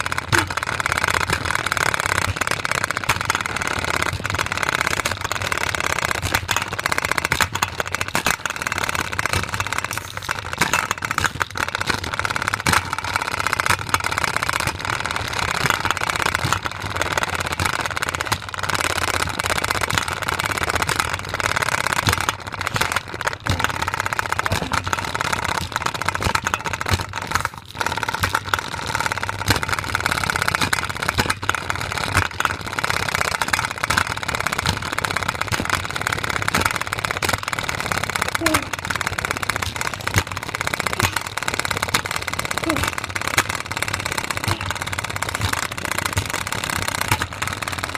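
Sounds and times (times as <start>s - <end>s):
spinning container banging and rattling: 0.0s - 47.9s.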